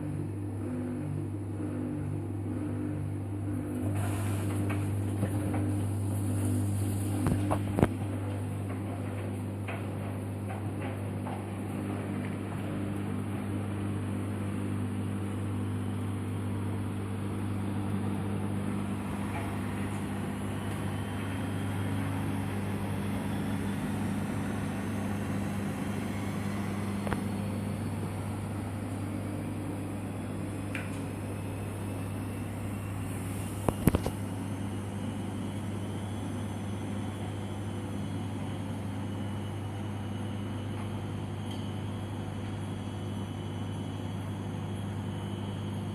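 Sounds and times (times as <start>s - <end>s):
washing machine motor hum: 0.0s - 45.9s.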